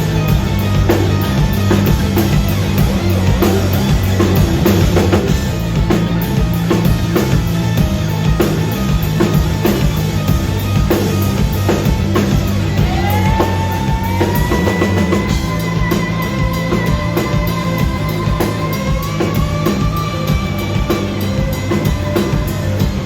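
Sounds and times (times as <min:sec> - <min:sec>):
drum kit: 0:00.0 - 0:23.0
heavy bass line: 0:00.0 - 0:23.0
live rock band playing: 0:00.0 - 0:23.0.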